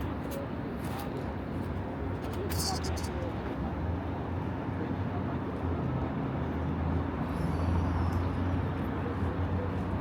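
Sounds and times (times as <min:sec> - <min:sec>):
railway station rumble and hum: 0:00.0 - 0:10.0.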